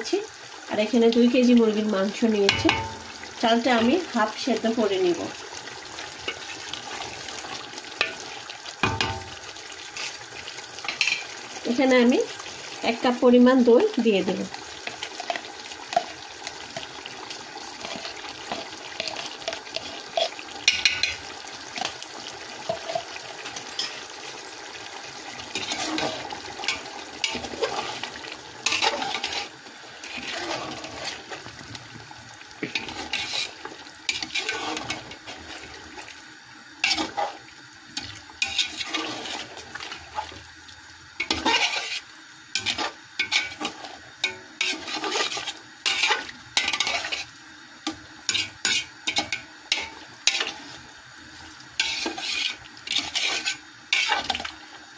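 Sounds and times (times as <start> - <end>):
meat cooking hiss: 0.0 - 54.9.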